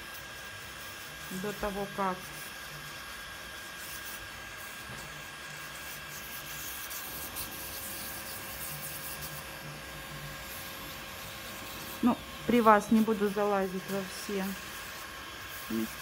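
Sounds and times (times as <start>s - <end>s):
pedicure machine humming: 0.0s - 16.0s.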